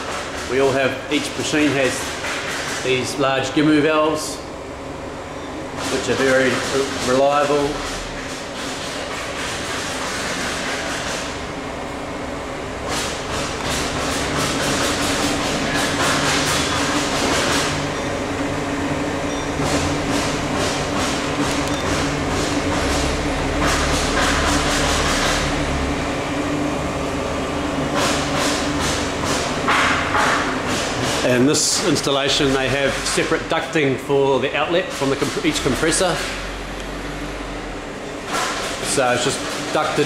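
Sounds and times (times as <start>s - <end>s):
air compressors droning: 0.0s - 40.0s.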